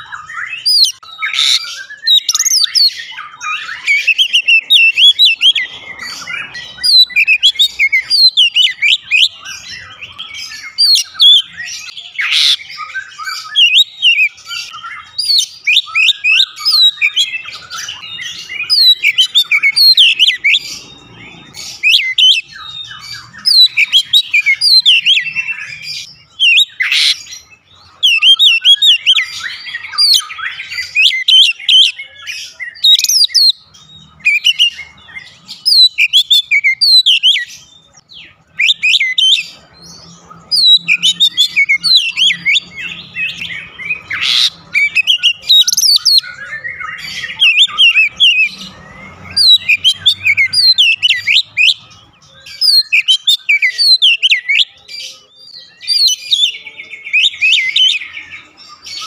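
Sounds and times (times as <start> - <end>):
bird singing whistles and chirps: 0.0 - 59.0.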